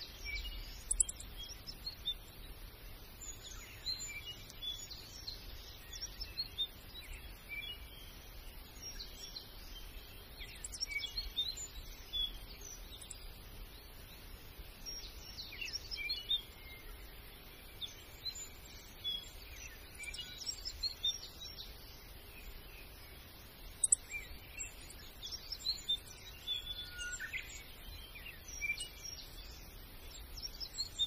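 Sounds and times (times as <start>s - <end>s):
faint steady background noise: 0.0s - 31.0s
small birds chirping: 0.0s - 31.0s.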